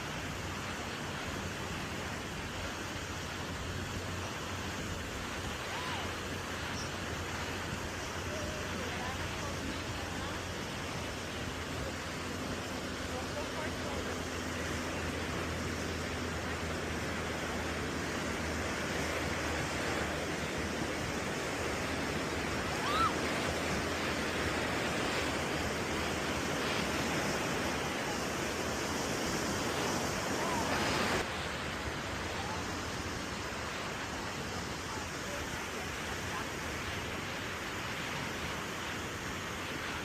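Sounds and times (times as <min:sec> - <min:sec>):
ocean waves washing ashore: 0:00.0 - 0:40.0.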